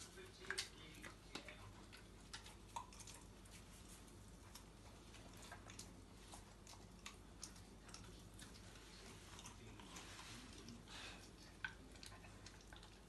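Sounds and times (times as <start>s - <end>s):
puppy chewing bones: 0.0s - 13.0s.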